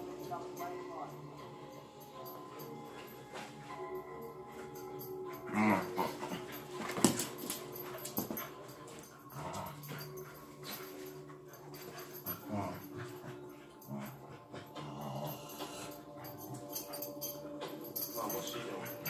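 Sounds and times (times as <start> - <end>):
dogs growling and whining: 1.4 - 19.0.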